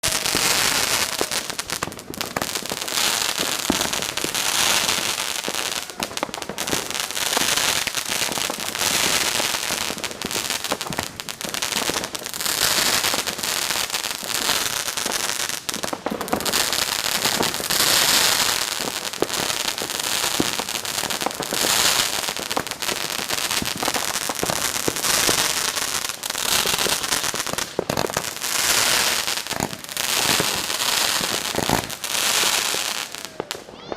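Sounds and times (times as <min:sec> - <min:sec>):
fireworks crackling and popping: 0:00.0 - 0:33.9.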